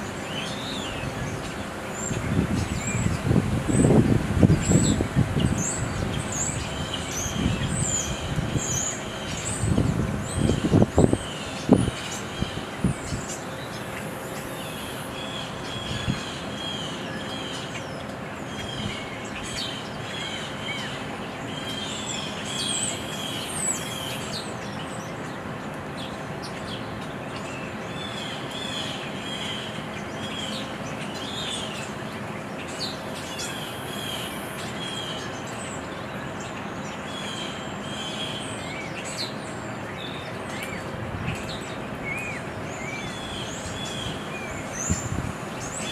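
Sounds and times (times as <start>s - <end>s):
small birds chirping: 0.0s - 45.9s
steady background hiss: 0.0s - 45.9s.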